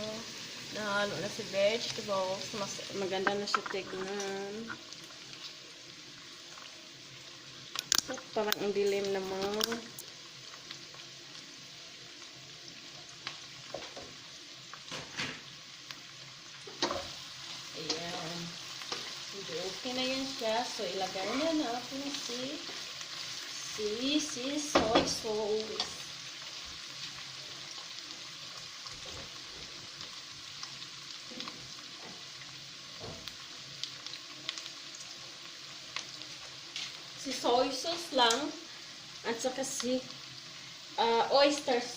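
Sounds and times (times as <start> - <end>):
vegetables sizzling in a frying pan: 0.0 - 41.9.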